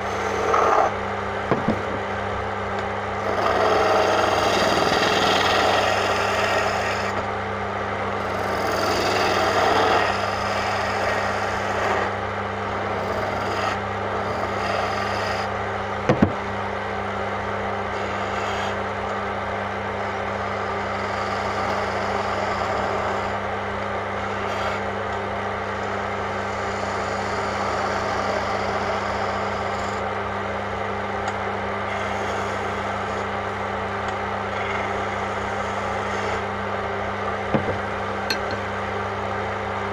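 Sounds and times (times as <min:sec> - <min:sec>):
chisel scraping spinning wood: 0:00.0 - 0:39.6
wood lathe motor hum: 0:00.0 - 0:39.9.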